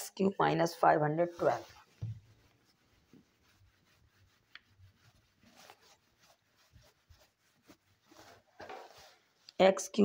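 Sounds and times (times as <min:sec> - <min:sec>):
whiteboard being wiped: 0:00.0 - 0:10.0.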